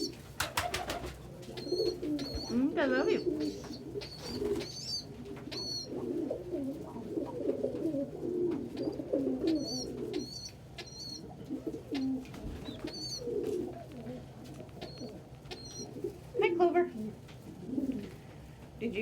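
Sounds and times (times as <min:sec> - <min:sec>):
pigeons cooing: 0:00.0 - 0:18.2.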